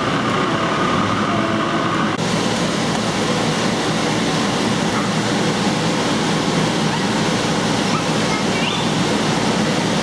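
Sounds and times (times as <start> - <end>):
blowers rushing: 0.0 - 10.0.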